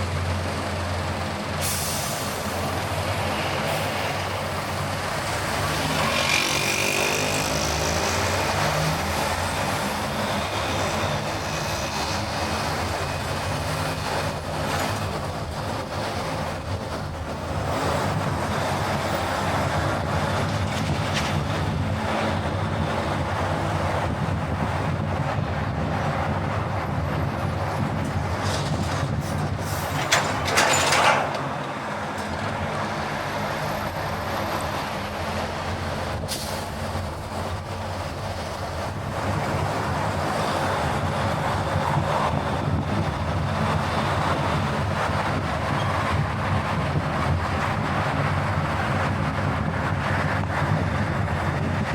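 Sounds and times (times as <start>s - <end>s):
car road and engine noise: 0.0s - 51.9s.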